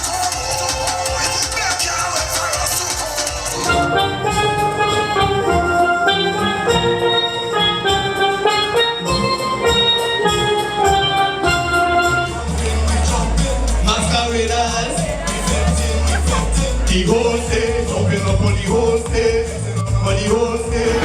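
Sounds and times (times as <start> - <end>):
drum beat: 0.0 - 7.1, 10.8 - 21.0
steelpan melody: 0.0 - 18.7.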